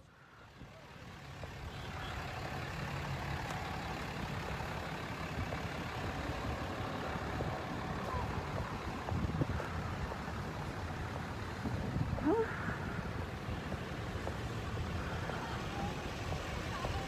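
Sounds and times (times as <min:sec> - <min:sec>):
traffic rolling past: 0:00.0 - 0:17.0.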